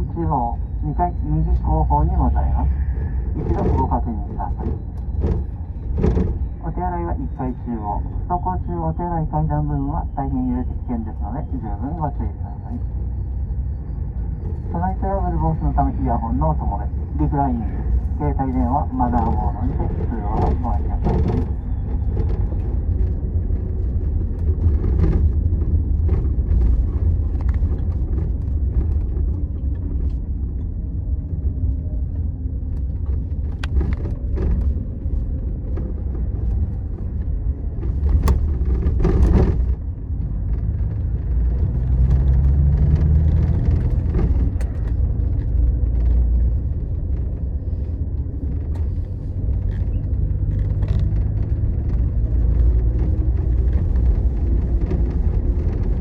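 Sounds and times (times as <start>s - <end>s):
coach engine and road noise: 0.0s - 56.0s.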